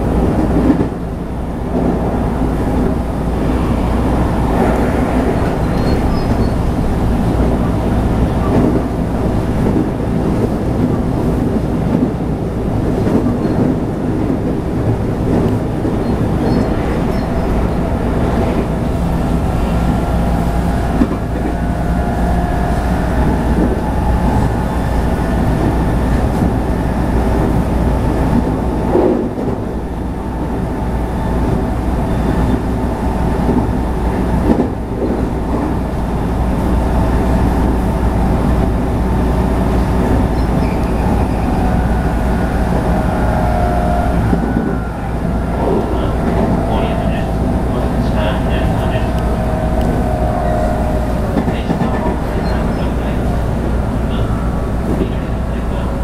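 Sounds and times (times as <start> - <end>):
rail joint clacks: 0.0 - 56.0
train wheels rumbling: 0.0 - 56.0.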